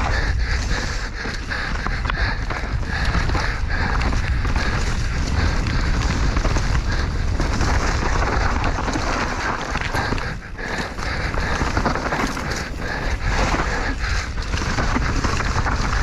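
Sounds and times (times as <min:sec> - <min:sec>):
bike rattling and knocking: 0:00.0 - 0:16.0
tyres rushing on dirt and rock: 0:00.0 - 0:16.0
wind buffeting microphone: 0:00.0 - 0:16.0.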